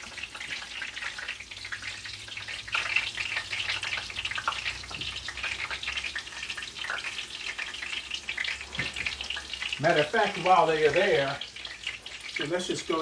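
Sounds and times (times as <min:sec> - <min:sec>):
hot oil sizzling and crackling: 0:00.0 - 0:13.0.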